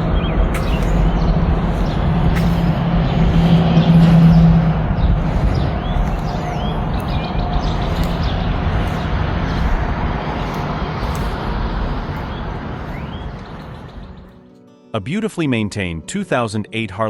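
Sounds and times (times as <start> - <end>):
motorcycle engine running: 0.0 - 14.4
birds chirping: 0.0 - 14.6.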